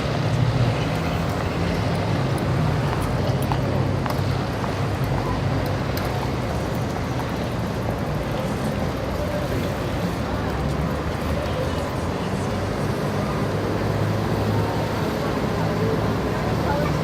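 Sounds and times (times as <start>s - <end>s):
faint voices: 0.0s - 17.0s
traffic engines passing: 0.0s - 17.0s.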